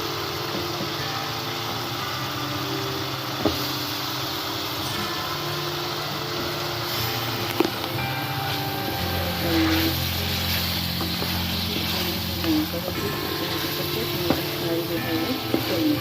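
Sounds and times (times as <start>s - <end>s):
small motor humming: 0.0s - 16.0s.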